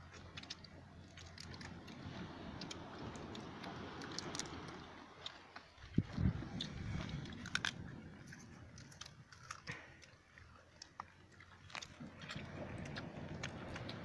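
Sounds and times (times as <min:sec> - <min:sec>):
crab shells cracking: 0:00.1 - 0:05.3, 0:06.9 - 0:14.0.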